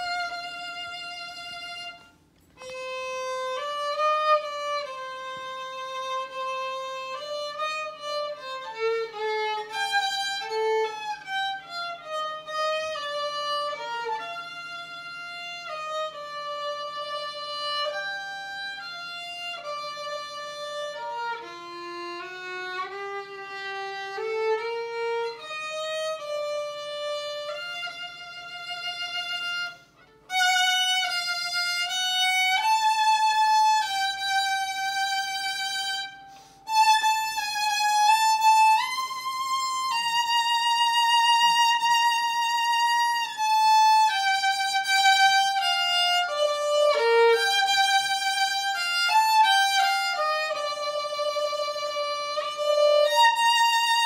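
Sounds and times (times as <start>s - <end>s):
solo violin melody: 0.0s - 54.0s.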